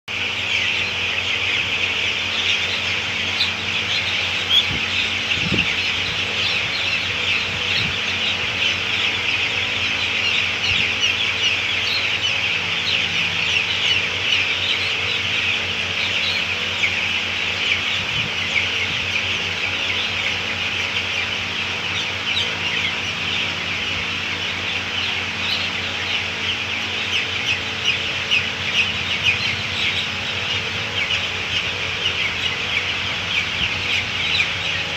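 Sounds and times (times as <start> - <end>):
chickens cheeping: 0.1 - 34.9.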